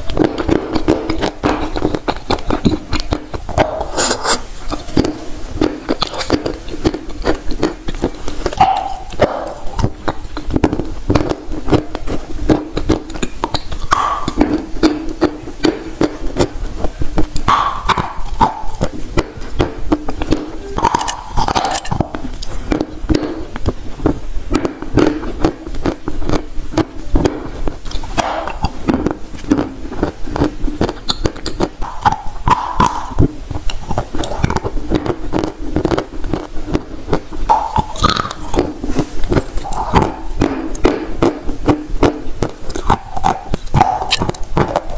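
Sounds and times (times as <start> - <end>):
crunchy chewing: 0.0 - 44.9
mouth sounds: 0.0 - 44.9.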